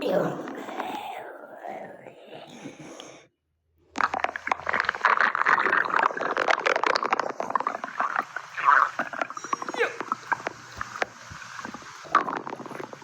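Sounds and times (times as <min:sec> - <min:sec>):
stomach growling: 0:00.0 - 0:03.3, 0:03.9 - 0:13.0.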